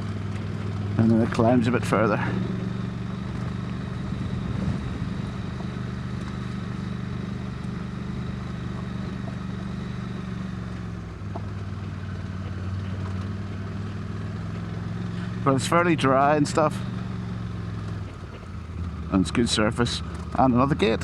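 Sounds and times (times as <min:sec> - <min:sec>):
motorcycle engine under steady throttle: 0:00.0 - 0:21.0.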